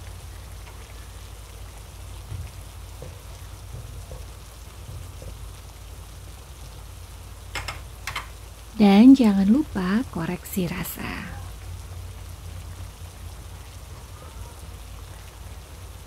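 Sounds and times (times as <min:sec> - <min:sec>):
stew bubbling in a wok: 0:00.0 - 0:16.0.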